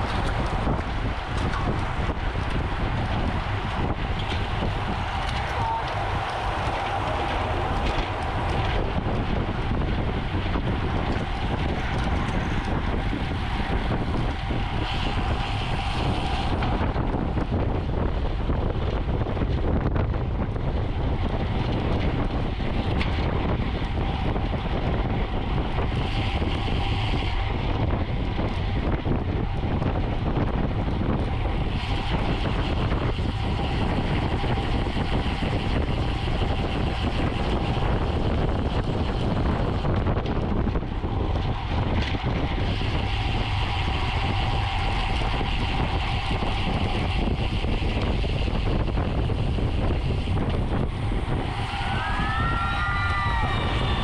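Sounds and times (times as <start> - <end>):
tyre and road noise: 0.0 - 54.0
wind rushing over microphone: 0.0 - 54.0.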